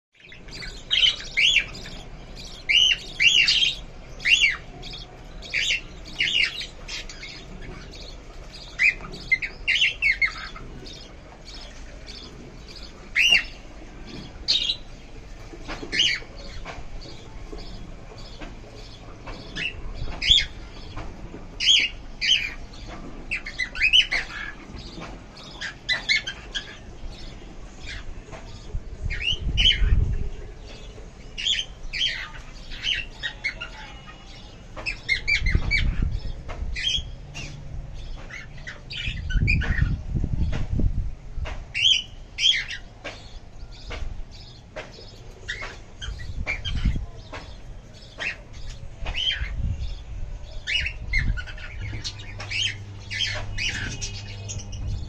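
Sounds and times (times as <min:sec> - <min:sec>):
lovebirds chirping and squawking: 0:00.2 - 0:55.0.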